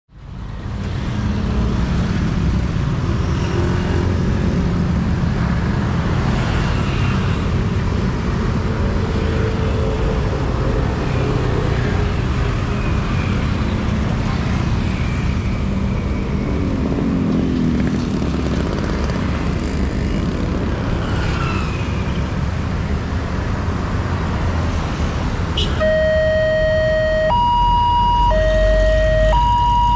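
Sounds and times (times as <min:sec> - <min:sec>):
cars passing: 0:00.2 - 0:29.9.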